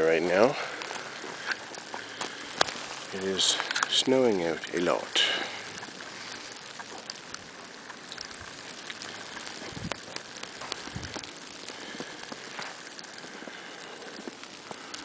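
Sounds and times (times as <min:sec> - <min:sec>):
wind-driven snow pattering: 0:00.0 - 0:15.0.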